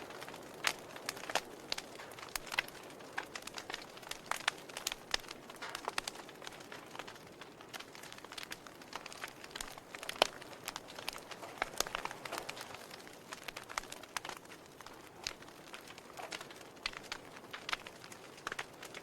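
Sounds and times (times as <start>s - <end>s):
soft steady hiss: 0.0s - 19.0s
wood fire pops and snaps: 0.0s - 19.0s.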